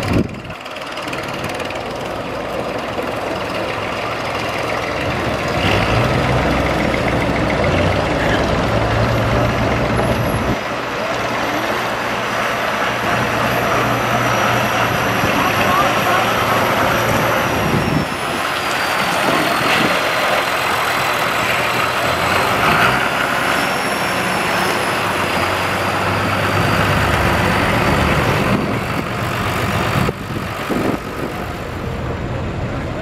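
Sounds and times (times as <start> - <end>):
diesel tractor engines running: 0.0 - 33.0.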